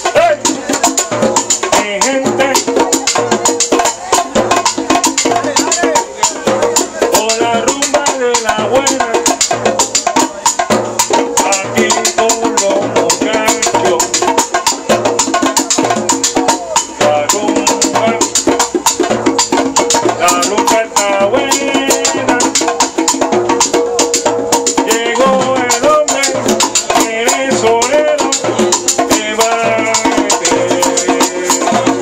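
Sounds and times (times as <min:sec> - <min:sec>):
salsa band playing: 0:00.0 - 0:32.0.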